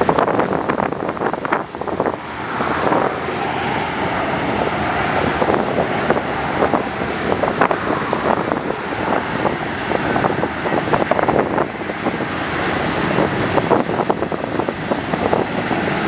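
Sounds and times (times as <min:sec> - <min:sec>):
road vehicle noise: 0:00.0 - 0:16.0.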